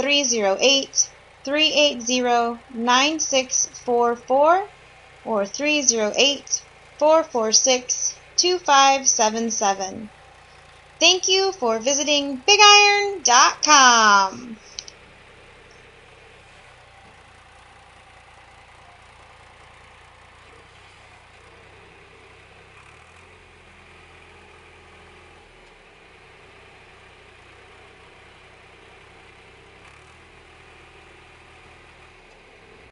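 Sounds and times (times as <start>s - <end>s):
faint diesel engine idling: 0.0s - 32.9s.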